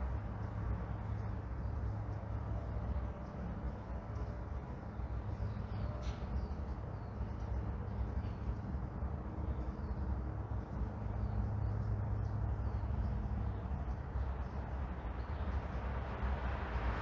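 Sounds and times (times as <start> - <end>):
distant traffic rumble: 0.0 - 17.0
small birds chirping: 0.1 - 15.9.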